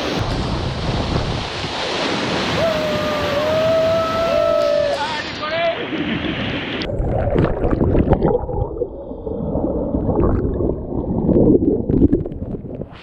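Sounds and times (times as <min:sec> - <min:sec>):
muffled stream water gurgling: 0:00.0 - 0:13.0.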